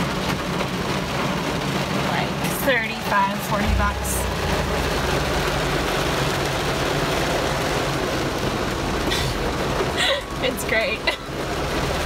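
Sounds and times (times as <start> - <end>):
car engine: 0.0 - 12.0
rain on car roof: 0.0 - 12.0
road noise: 0.0 - 12.0.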